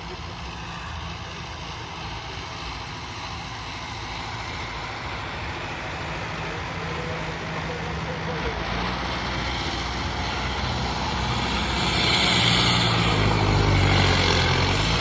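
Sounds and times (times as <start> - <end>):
tractor engine humming: 0.0 - 15.0.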